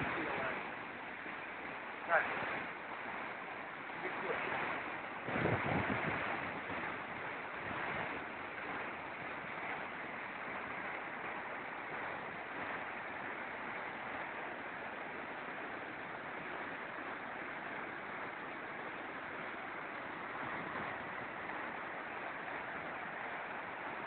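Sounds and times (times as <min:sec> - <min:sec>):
whitewater rushing over rocks: 0:00.0 - 0:24.0.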